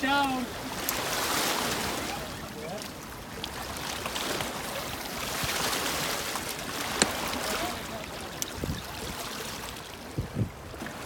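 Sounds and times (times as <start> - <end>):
river water washing against rocks: 0.0 - 11.0.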